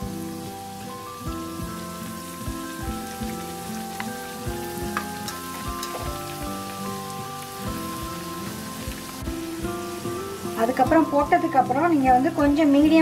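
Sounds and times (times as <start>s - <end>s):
food deep-frying in oil: 0.0s - 13.0s
instrumental background music: 0.0s - 13.0s.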